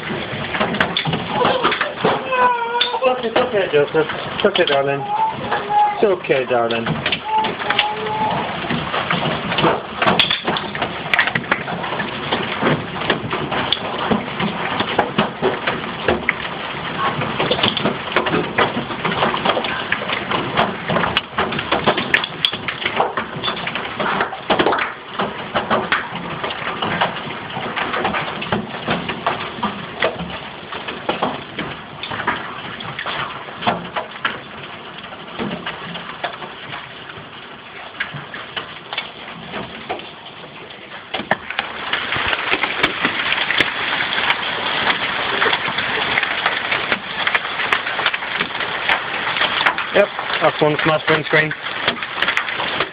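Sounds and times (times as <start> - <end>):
hailstones clattering on house: 0.0 - 52.9.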